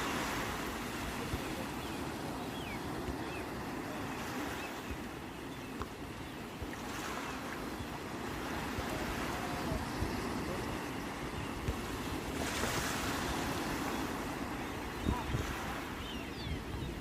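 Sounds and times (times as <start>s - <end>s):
sea waves washing ashore: 0.0s - 17.0s
wind rumble on microphone: 0.0s - 17.0s.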